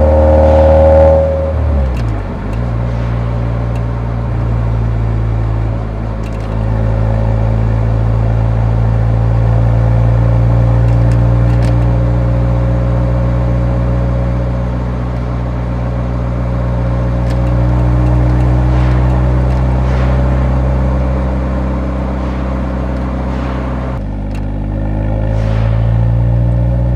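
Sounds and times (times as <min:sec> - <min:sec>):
car exhaust while driving: 0:00.0 - 0:26.9.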